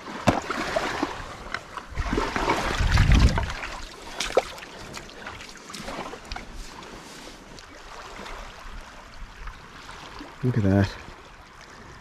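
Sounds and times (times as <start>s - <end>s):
water washing on shore: 0.0s - 12.0s.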